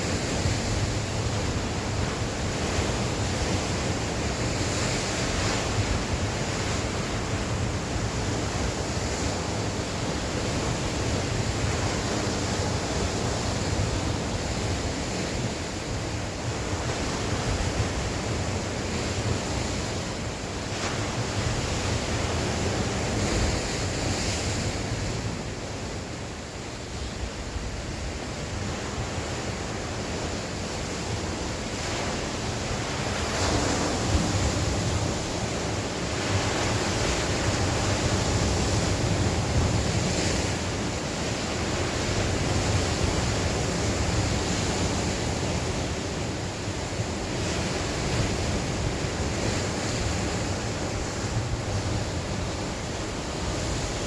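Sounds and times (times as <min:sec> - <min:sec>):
sea waves breaking on shore: 0:00.0 - 0:54.0
wind rumbling on microphone: 0:00.0 - 0:54.0.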